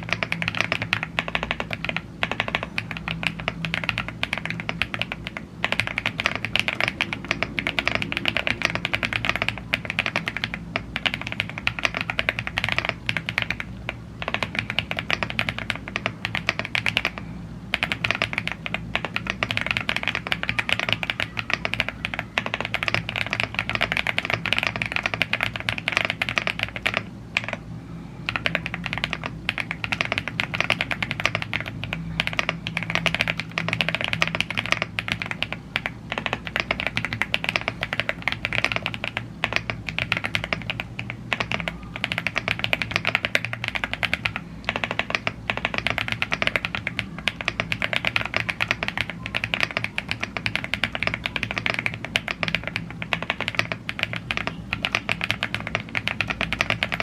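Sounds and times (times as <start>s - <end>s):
mechanical keyboard typing: 0.0s - 27.6s, 28.3s - 57.0s
faint low hum: 0.0s - 57.0s.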